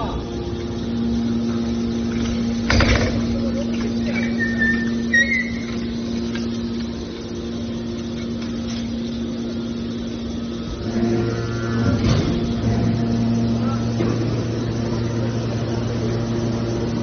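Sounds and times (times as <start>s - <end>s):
baler machine humming: 0.0s - 17.0s
deeper hum: 0.0s - 17.0s.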